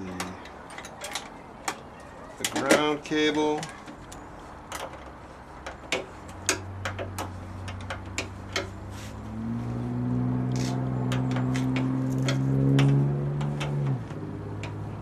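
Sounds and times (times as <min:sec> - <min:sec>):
hand tools clicking on metal: 0:00.0 - 0:08.8, 0:10.5 - 0:15.0.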